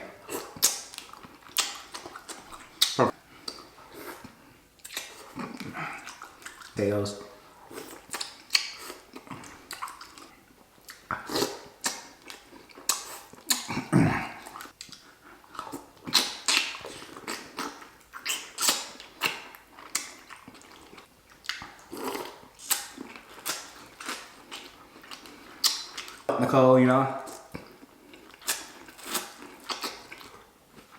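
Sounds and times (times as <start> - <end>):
wet chewing and lip smacking: 0.2 - 6.8, 7.5 - 26.3, 27.2 - 30.9.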